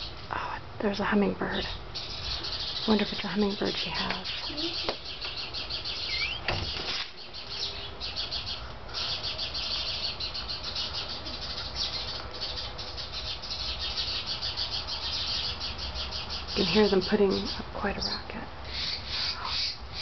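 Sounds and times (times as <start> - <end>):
birds chirping alarm calls: 0.9 - 20.0.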